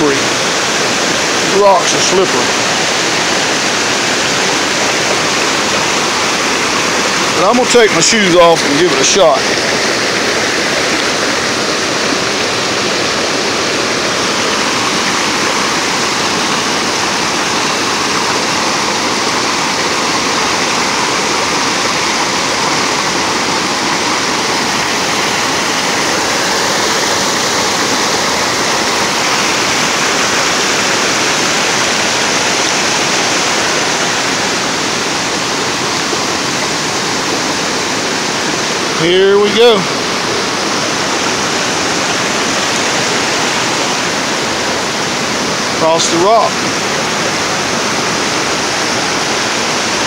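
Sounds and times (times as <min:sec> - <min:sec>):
river rushing over rocks: 0:00.0 - 0:50.0.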